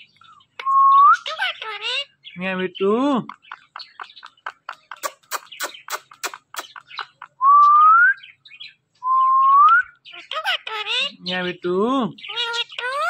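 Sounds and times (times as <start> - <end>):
parrot chirping: 0.0 - 13.0.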